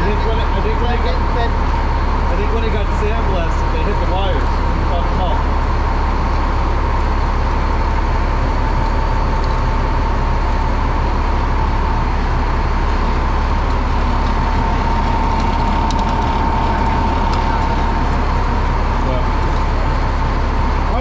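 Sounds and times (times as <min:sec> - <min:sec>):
high whine: 0:00.0 - 0:21.0
truck engine running: 0:00.0 - 0:21.0.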